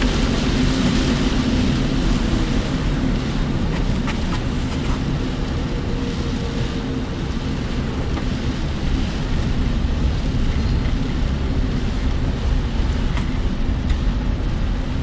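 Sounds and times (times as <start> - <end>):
car road and engine drone: 0.0 - 15.0
rain and wind hiss: 0.0 - 15.0.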